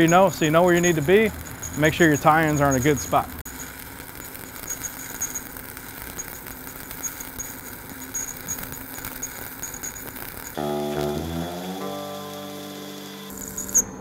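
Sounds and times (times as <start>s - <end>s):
welding arc crackling hiss: 0.0s - 13.8s.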